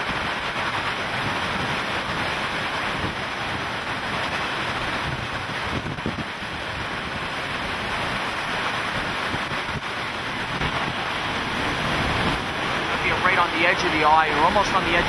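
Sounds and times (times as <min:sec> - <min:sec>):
driving rain: 0:00.0 - 0:15.0
strong wind: 0:00.0 - 0:15.0
wind buffeting microphone: 0:00.0 - 0:15.0.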